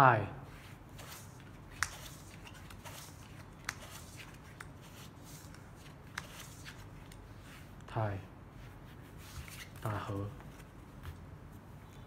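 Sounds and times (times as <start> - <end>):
playing cards being dealt: 0.5 - 7.9, 8.6 - 11.3.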